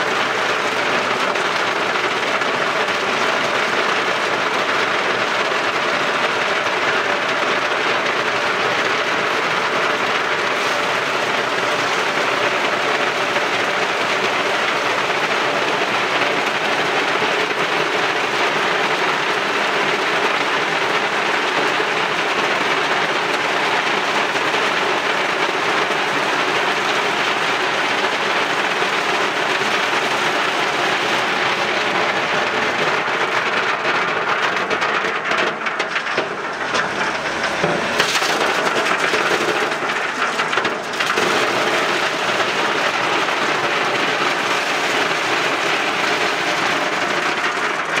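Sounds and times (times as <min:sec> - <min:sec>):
coal rattling down metal chute: 0:00.0 - 0:48.0.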